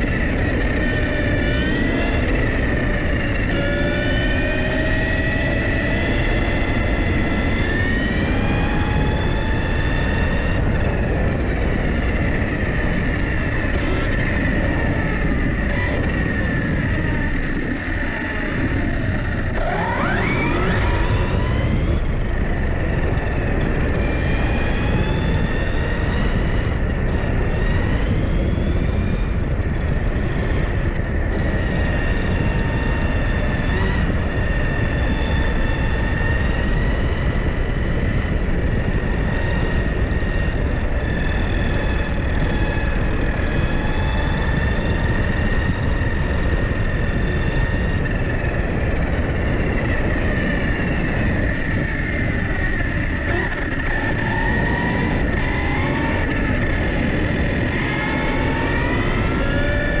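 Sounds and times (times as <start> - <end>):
rc car motor whine: 0.0 - 60.0
wind and road noise: 0.0 - 60.0.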